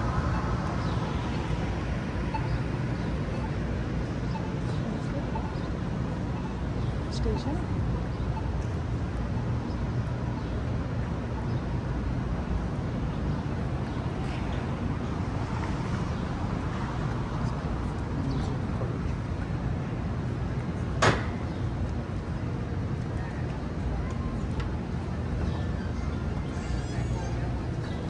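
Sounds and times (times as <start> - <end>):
city vehicle rumble: 0.0 - 28.0
faint voices: 1.3 - 11.5, 13.8 - 28.0.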